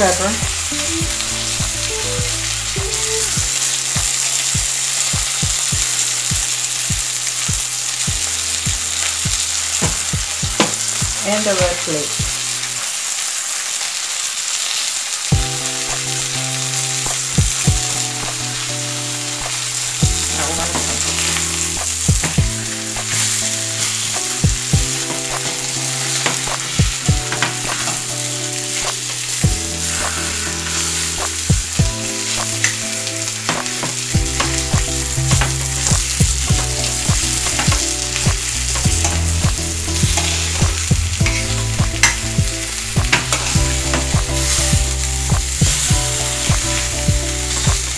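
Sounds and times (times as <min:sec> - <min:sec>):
butter sizzling in a frying pan: 0:00.0 - 0:47.9.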